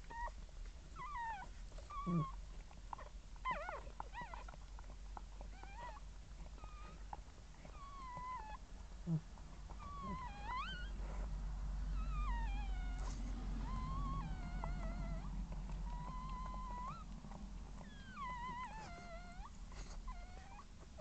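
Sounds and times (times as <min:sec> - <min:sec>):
steady low hum: 0:00.0 - 0:21.0
puppies squeaking and crying: 0:01.0 - 0:08.7, 0:09.6 - 0:21.0.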